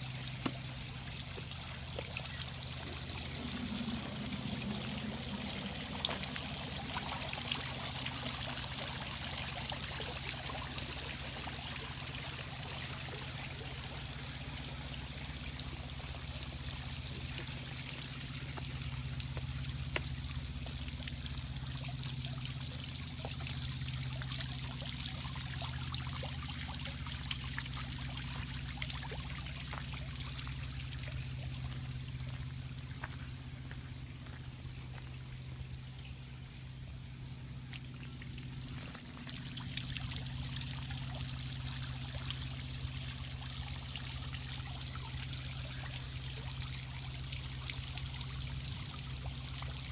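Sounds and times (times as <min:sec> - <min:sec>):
low steady hum: 0:00.0 - 0:49.9
water pouring and trickling: 0:00.0 - 0:49.9.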